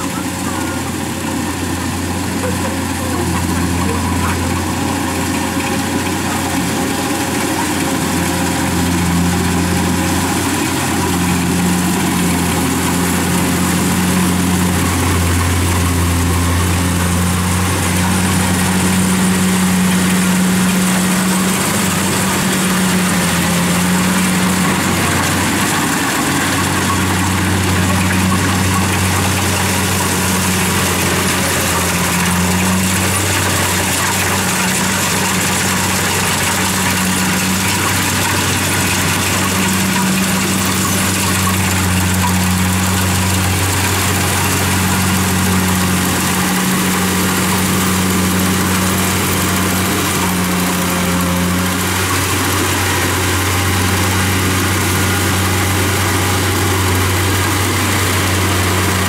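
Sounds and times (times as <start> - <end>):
combine harvester engine hum: 0.0 - 59.0
machinery noise: 0.0 - 59.0.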